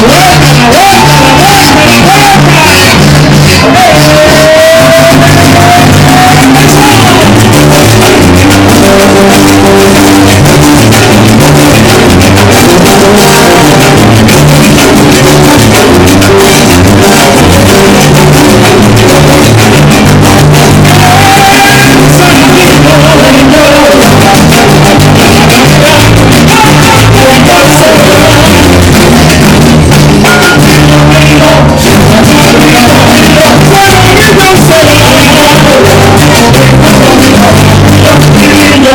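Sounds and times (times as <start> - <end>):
live band playing latin music: 0.0 - 38.9
person singing: 0.0 - 38.9
steady drum beat: 0.0 - 38.9.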